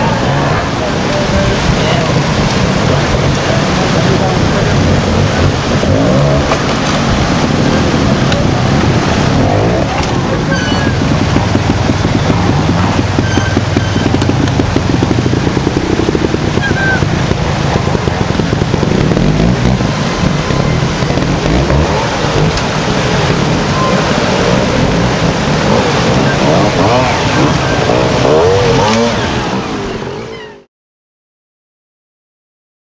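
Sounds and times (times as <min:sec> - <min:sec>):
rushing rocky stream: 0:00.0 - 0:30.3
motorcycle engines at low revs: 0:00.0 - 0:30.6.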